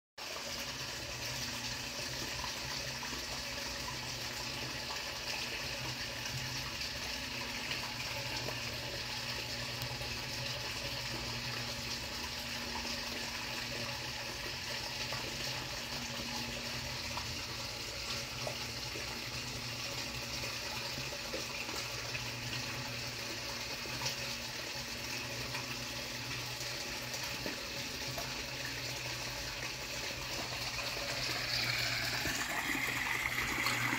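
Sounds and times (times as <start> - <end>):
running splashing water: 0.2 - 33.9.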